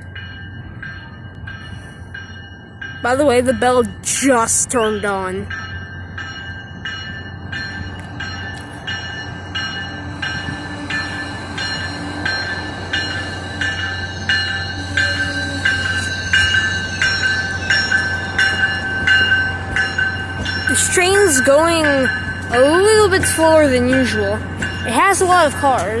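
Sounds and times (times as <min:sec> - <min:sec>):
bell ringing: 0:00.0 - 0:26.0
passing train rumble: 0:00.0 - 0:26.0.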